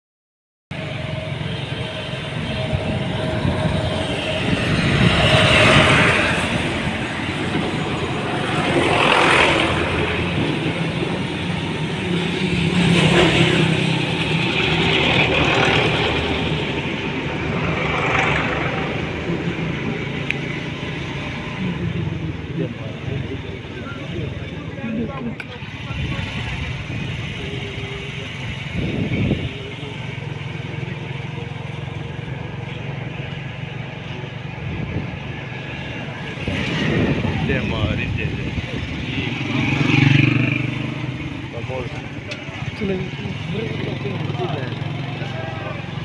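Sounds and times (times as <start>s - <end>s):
road noise: 0.7s - 46.0s
vehicle engines running: 0.7s - 46.0s.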